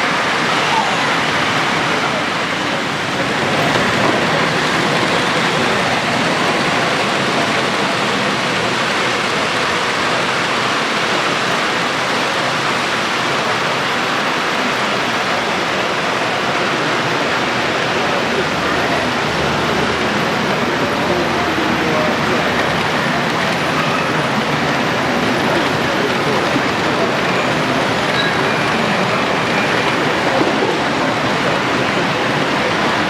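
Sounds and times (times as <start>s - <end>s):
crowd voices in a hall: 0.0s - 33.0s.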